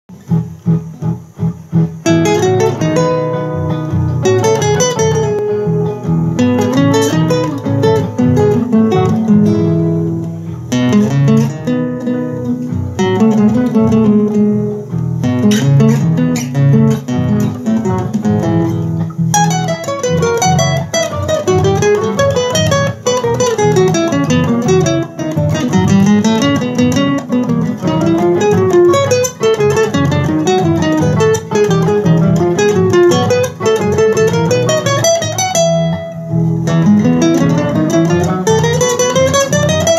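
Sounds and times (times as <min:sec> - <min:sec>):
solo acoustic guitar folk dance: 0:00.1 - 0:39.9.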